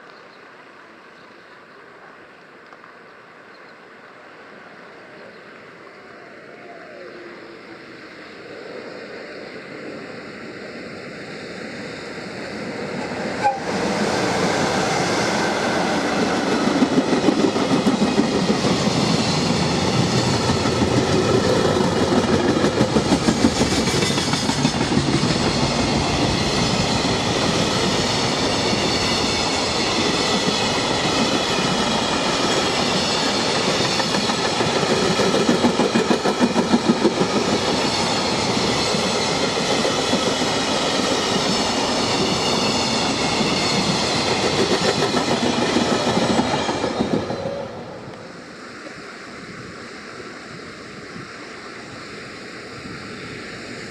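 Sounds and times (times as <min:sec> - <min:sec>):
freight train passing: 0:00.0 - 0:53.9.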